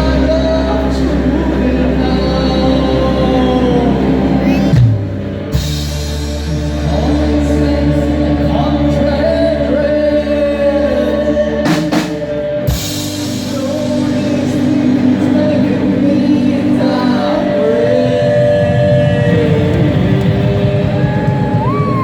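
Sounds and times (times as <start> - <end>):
live band with singing: 0.0 - 22.0.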